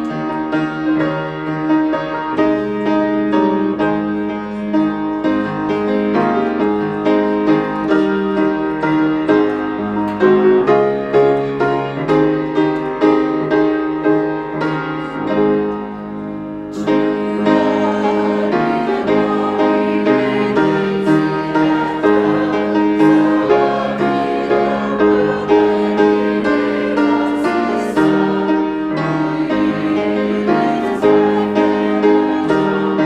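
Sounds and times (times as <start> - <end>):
piano playing slow melody: 0.0 - 33.0.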